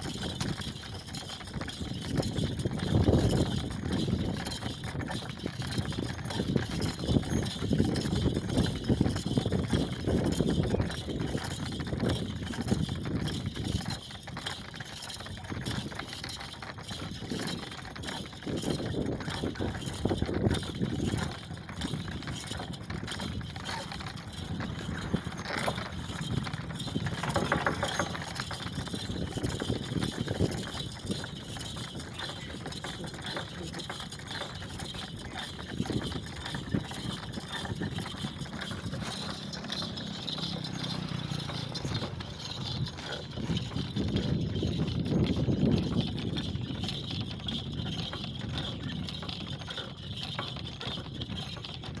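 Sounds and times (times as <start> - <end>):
cart and harness rattling: 0.0 - 52.0
cart rumbling on road: 0.0 - 52.0.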